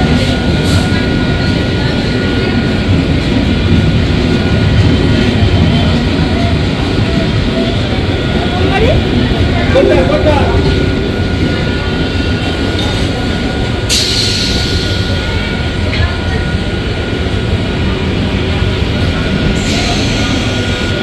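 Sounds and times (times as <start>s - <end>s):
train rumbling on track: 0.0s - 21.0s.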